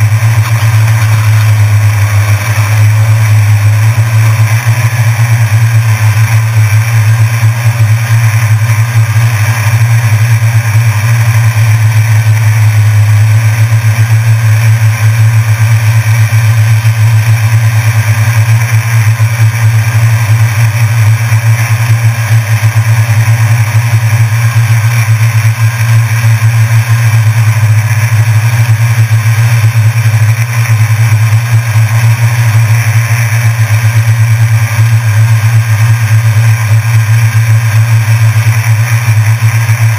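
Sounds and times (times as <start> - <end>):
drone propellers buzzing hum: 0.0 - 39.9.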